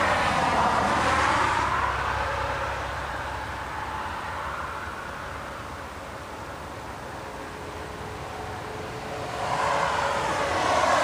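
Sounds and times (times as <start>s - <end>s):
motor vehicle passing: 0.0s - 5.8s, 7.5s - 11.0s.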